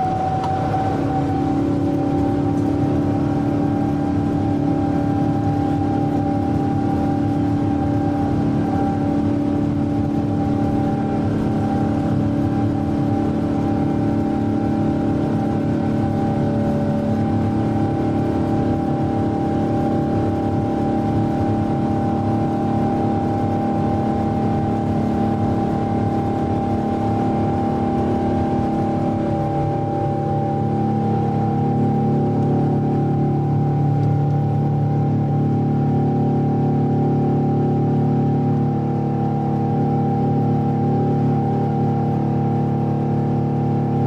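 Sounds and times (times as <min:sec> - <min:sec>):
jet engine drone in cabin: 0:00.0 - 0:44.0.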